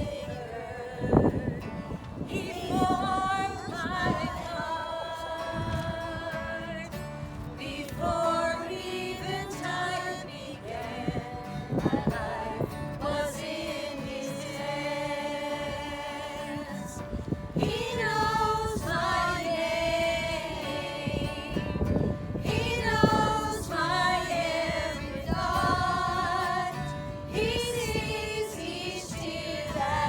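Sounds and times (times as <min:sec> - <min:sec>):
voices singing a gospel song: 0:00.0 - 0:30.0.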